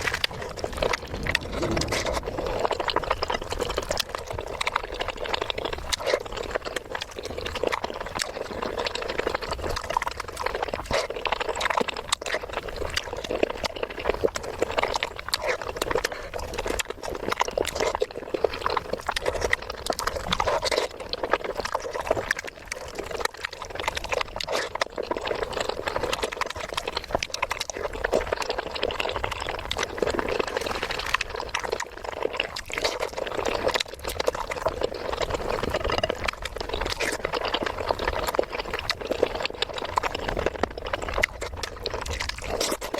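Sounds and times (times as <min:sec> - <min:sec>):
mouth clicks and smacks: 0:00.0 - 0:42.9
wet chewing: 0:00.0 - 0:42.9.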